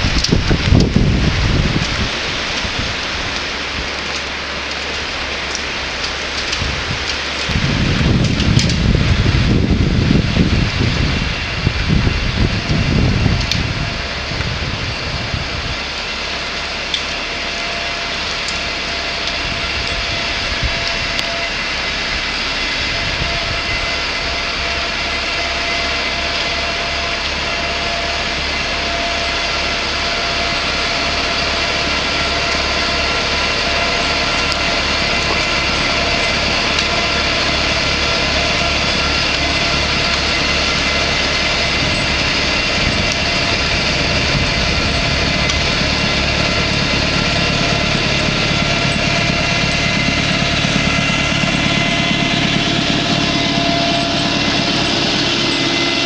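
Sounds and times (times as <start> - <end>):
steady whine: 0.0 - 56.0
tractor diesel engine running: 0.0 - 56.0.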